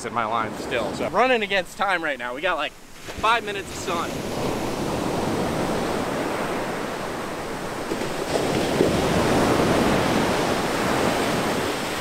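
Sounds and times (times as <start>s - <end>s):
ocean surf breaking on beach: 0.2s - 12.0s.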